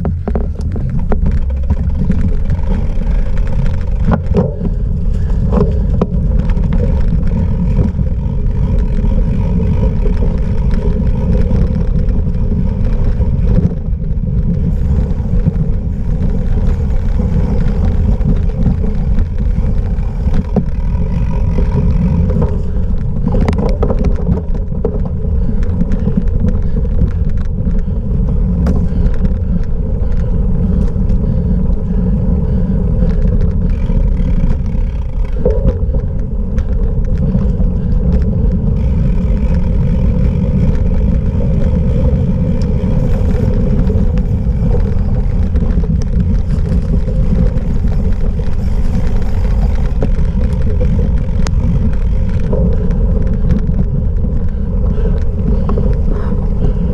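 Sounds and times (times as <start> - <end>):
bike rattling clicks and knocks: 0.0 - 56.9
tyre rumble: 0.0 - 56.9
wind: 0.0 - 56.9.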